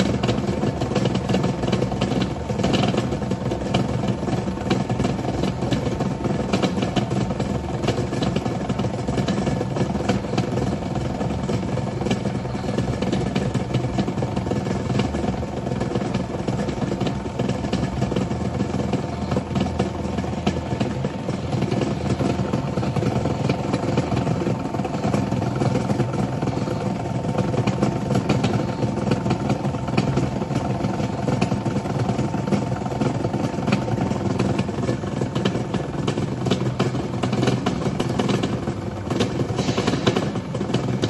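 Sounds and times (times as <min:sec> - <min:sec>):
granulator motor humming and whining: 0:00.0 - 0:41.0
irregular clicks and clatter: 0:00.0 - 0:41.0.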